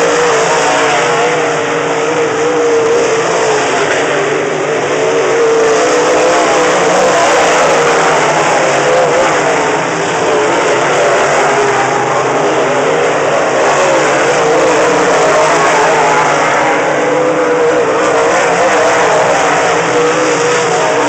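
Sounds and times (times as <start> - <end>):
race car engines at speed: 0.0 - 21.0.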